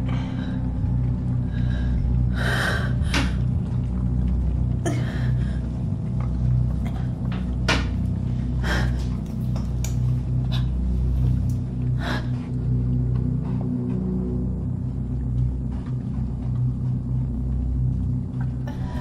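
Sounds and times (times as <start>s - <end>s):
low steady rumbling drone: 0.0s - 19.0s.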